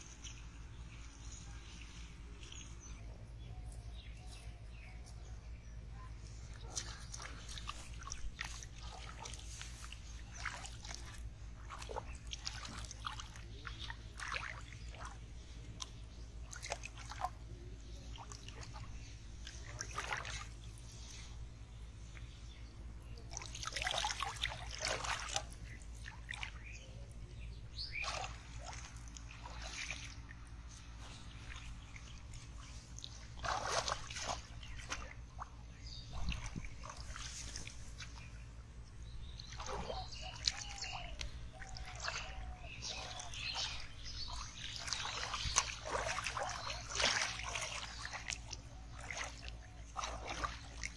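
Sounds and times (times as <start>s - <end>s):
steady low hum: 0.0s - 50.9s
muddy water splashing: 5.8s - 50.9s.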